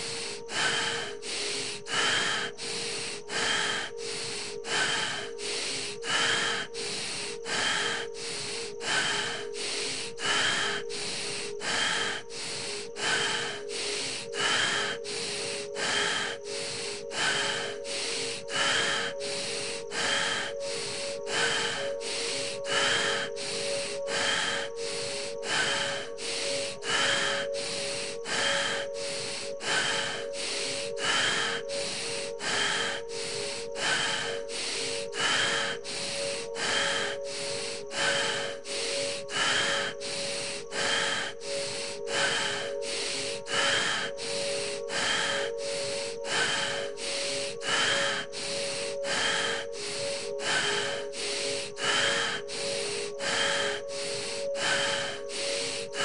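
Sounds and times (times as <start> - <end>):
fast rasping breaths: 0.0 - 56.0
musical drone: 0.0 - 56.0.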